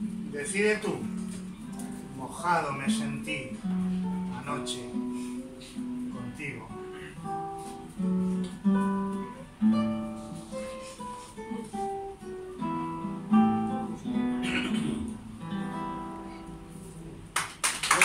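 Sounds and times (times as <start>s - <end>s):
acoustic guitar melody: 0.0s - 17.6s.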